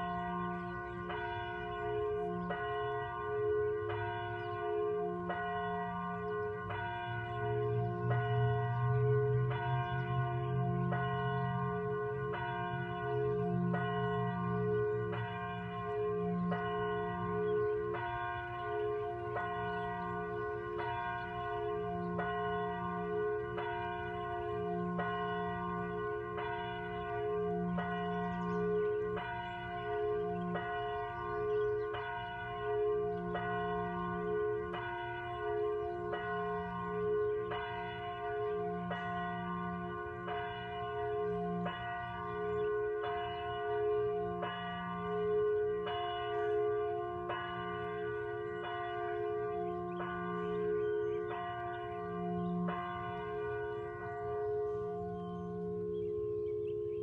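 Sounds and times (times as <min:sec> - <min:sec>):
church bell tolling: 0:00.0 - 0:57.0.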